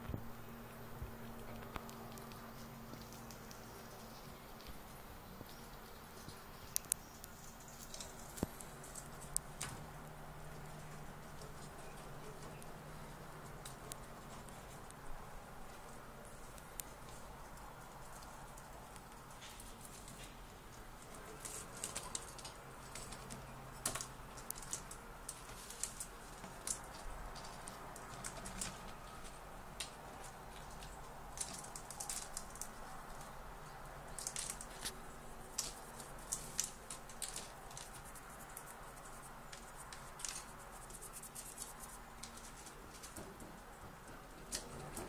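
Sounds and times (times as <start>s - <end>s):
chipmunk clicks and scratches: 1.1s - 45.0s.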